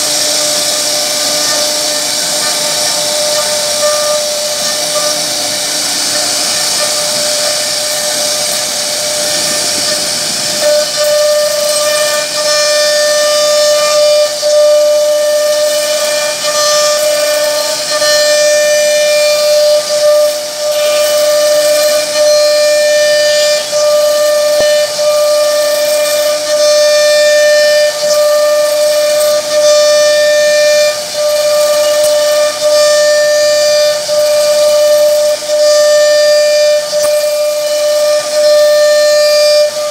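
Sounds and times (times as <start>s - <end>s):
bit cutting wood hiss: 0.0s - 39.9s
router spindle whining: 0.0s - 39.9s.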